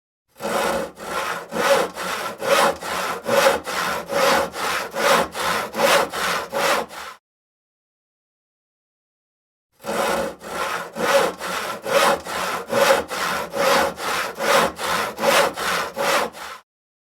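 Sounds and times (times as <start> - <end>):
hand saw cutting wood: 0.3 - 7.2, 9.8 - 16.7.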